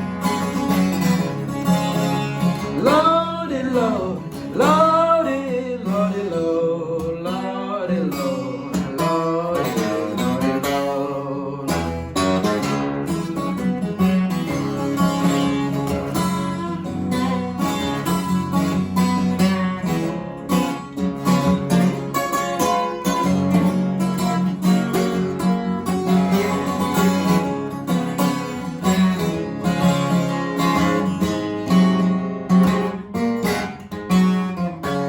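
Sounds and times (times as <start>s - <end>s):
acoustic guitar picking and strumming: 0.0s - 35.0s.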